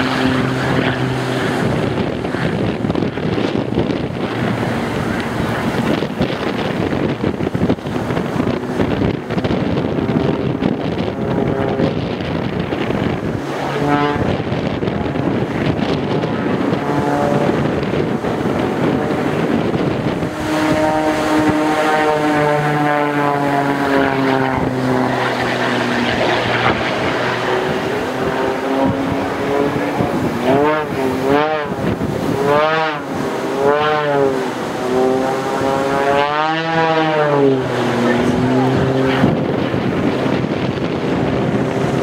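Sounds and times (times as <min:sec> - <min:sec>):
plane engine and propeller droning: 0:00.0 - 0:42.0
wind buffeting microphone: 0:00.0 - 0:42.0.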